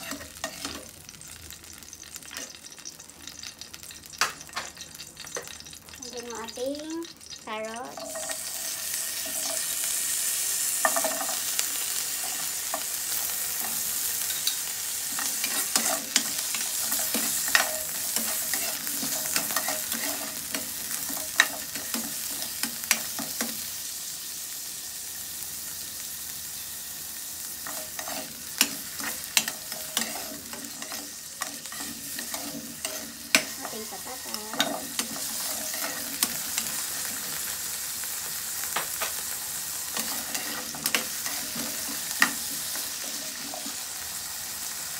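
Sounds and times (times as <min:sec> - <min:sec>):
vegetables sizzling in hot oil: 0:00.0 - 0:44.9.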